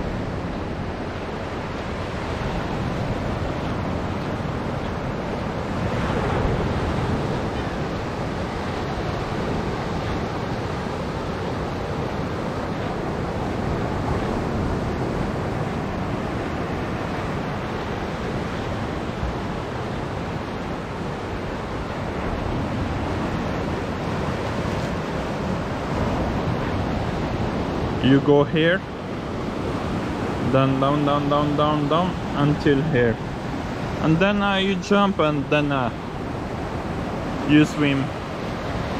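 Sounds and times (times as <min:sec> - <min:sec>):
sea surf washing: 0:00.0 - 0:38.9
wind blowing on microphone: 0:00.0 - 0:38.9.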